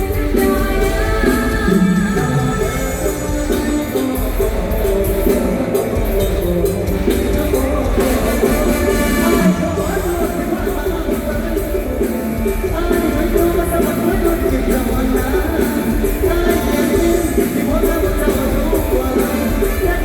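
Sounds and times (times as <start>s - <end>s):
live band music with heavy bass: 0.0s - 20.0s.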